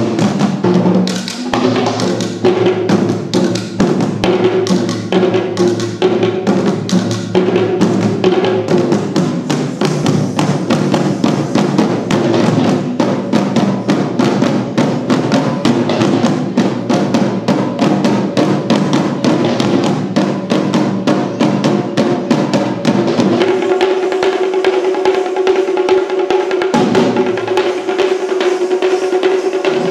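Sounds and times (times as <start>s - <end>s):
hand drums in fast rhythms: 0.0s - 29.9s.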